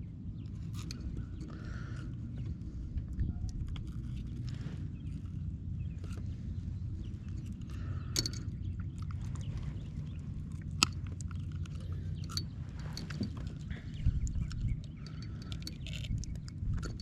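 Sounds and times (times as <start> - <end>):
low rumble: 0.0 - 17.0
gear clicking and scraping: 0.4 - 17.0.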